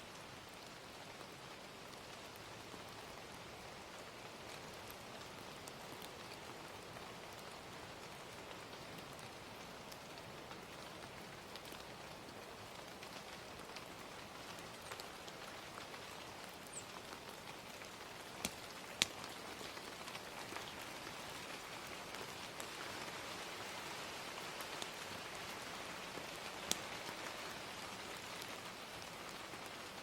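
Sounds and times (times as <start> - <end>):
gentle steady rain: 0.0 - 30.0
fire crackling and popping: 4.3 - 30.0.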